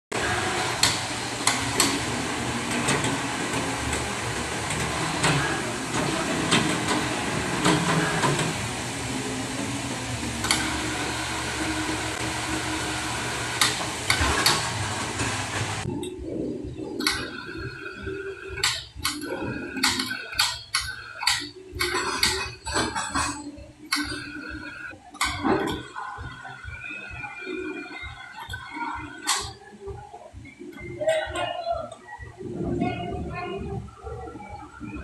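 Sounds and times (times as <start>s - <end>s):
machinery hum: 0.1s - 35.0s.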